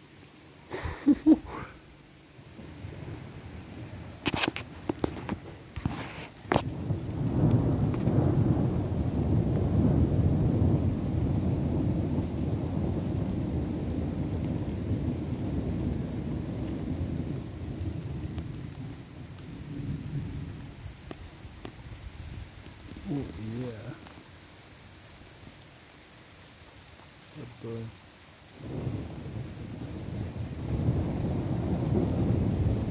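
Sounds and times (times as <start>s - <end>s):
rain falling: 0.0s - 32.9s
rolling thunder rumble: 2.4s - 24.1s, 27.4s - 32.9s.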